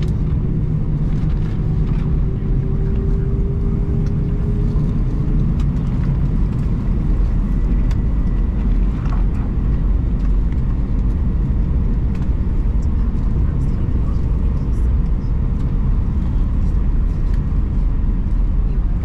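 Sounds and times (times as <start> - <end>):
aircraft cabin rumble while taxiing: 0.0 - 19.0.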